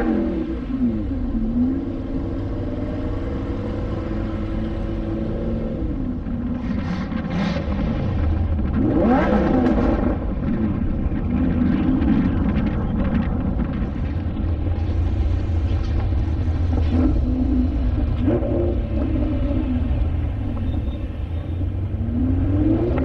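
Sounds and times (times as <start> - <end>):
car engine revving: 0.0 - 23.0
car engines in slow traffic: 0.0 - 23.0
steady low rumble: 0.0 - 23.0.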